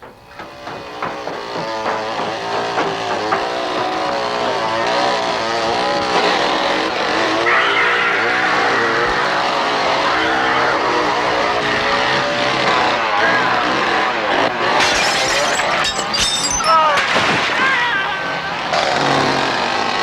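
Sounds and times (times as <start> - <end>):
chainsaw engine revving: 0.5 - 17.5, 18.3 - 20.0.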